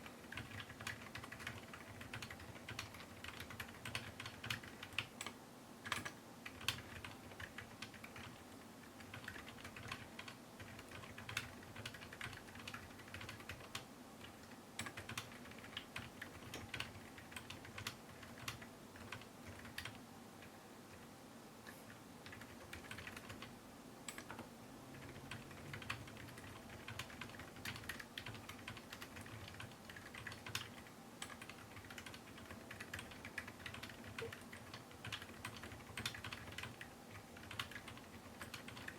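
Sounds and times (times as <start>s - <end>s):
soft mechanical keyboard typing: 0.0s - 21.1s, 21.7s - 38.9s.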